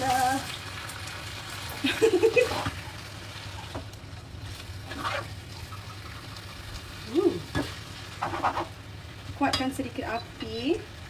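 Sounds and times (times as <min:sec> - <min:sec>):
noodles sizzling in a frying pan: 0:00.0 - 0:11.0.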